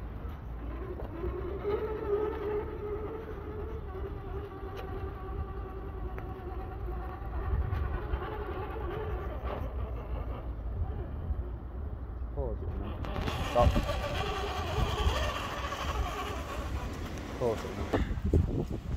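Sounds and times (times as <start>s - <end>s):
electric toy car motor whining: 0.2s - 11.7s, 12.8s - 18.3s.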